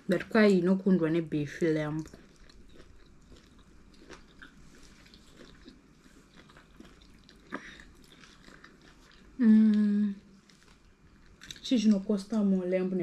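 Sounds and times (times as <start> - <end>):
people chewing food: 1.2 - 12.6.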